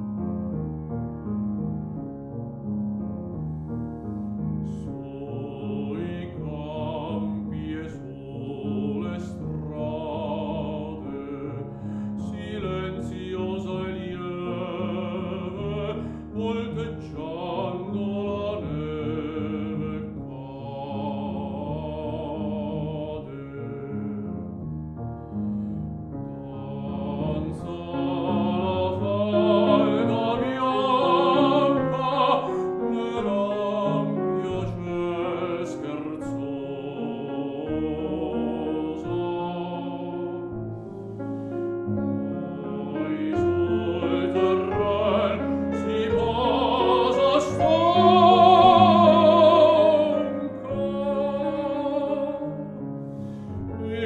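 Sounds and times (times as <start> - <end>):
piano accompaniment: 0.0 - 54.0
baritone singing with vibrato: 4.7 - 24.4, 26.3 - 40.6, 42.0 - 52.8, 53.6 - 54.0.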